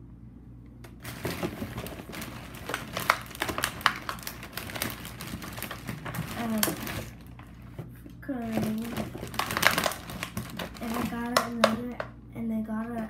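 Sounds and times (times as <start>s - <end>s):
plastic bag rustling and crinkling: 0.9s - 12.1s.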